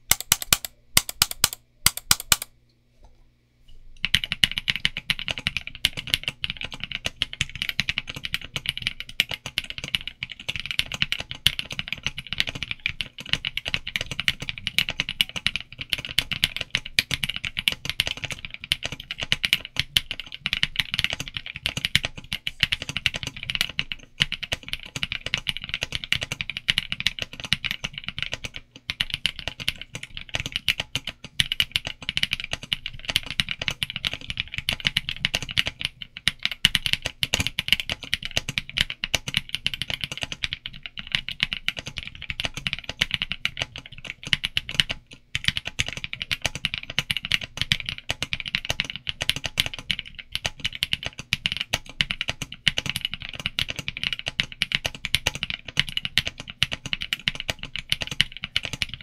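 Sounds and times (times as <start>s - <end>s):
fast typing on mechanical keyboard: 0.0s - 2.5s, 4.0s - 59.0s.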